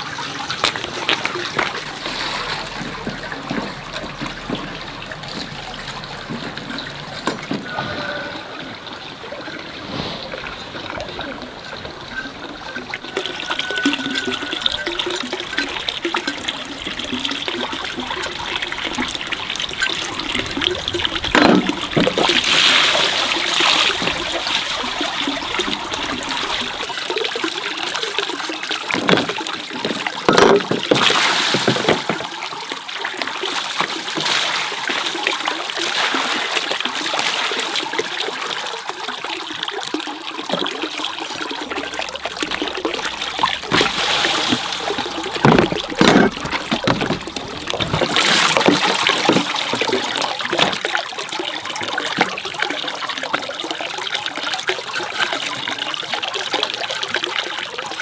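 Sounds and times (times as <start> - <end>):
water running and trickling: 0.0 - 58.0
water splashes: 0.0 - 58.0.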